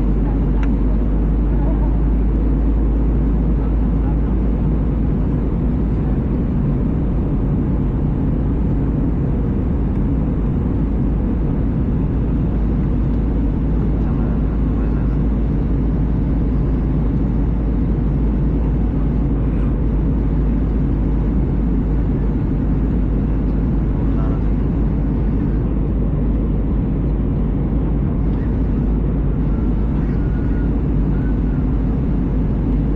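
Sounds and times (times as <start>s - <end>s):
aircraft engines rumbling: 0.0s - 32.9s.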